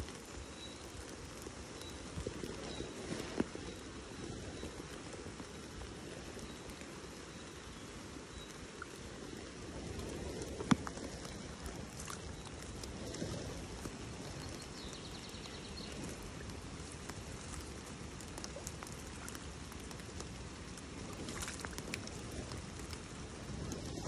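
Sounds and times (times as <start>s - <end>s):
rain pattering on leaves: 0.0s - 24.0s.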